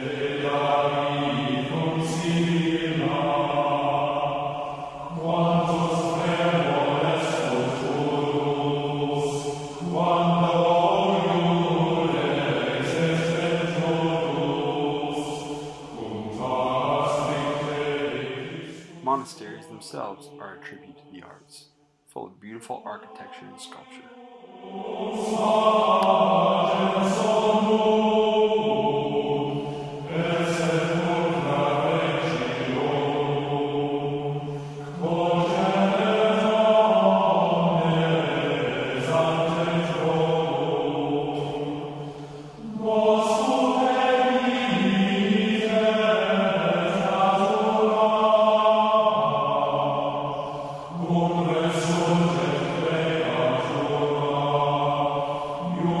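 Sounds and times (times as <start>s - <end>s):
chanting voices singing: 0.0s - 56.0s.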